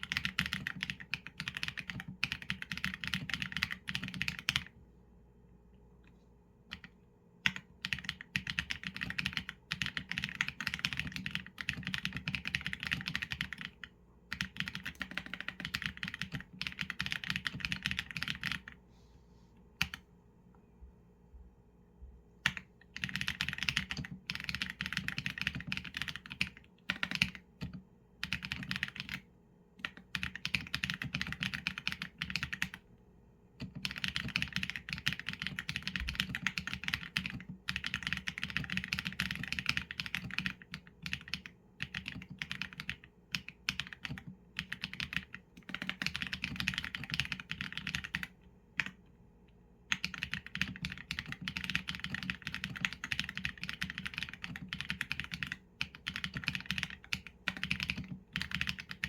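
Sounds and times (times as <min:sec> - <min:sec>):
mechanical keyboard typing: 0:00.0 - 0:04.7, 0:06.7 - 0:18.8, 0:19.8 - 0:20.0, 0:22.4 - 0:29.2, 0:29.8 - 0:32.8, 0:33.6 - 0:49.0, 0:49.9 - 0:59.0.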